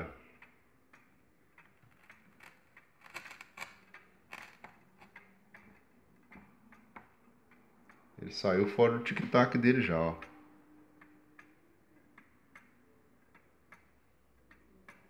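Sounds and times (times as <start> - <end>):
wall clock ticking irregularly: 0.0 - 15.0.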